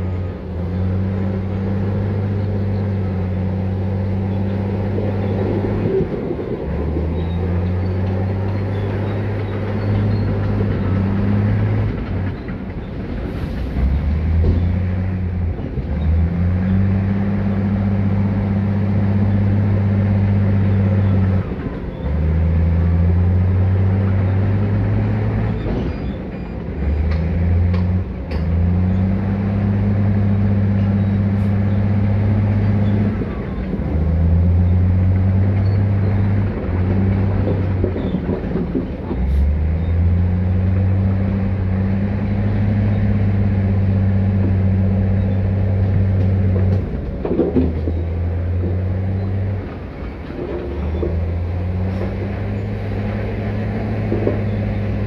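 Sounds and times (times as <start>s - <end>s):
large diesel engine running hard: 0.0s - 55.0s.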